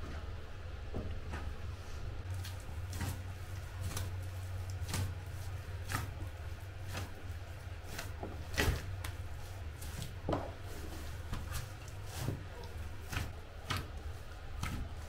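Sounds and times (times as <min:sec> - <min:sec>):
dough kneading squishes: 0:00.0 - 0:15.0.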